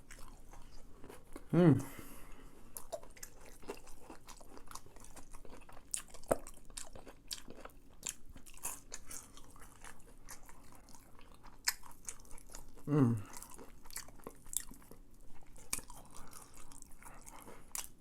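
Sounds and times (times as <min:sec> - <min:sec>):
chewing crispy fried chicken: 0:00.0 - 0:18.0.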